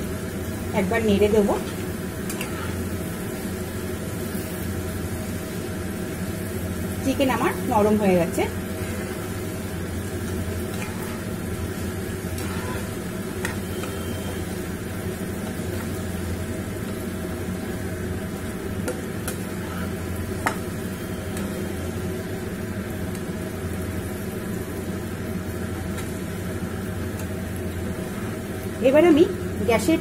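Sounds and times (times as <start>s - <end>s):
food sizzling in a pan: 0.0s - 30.0s.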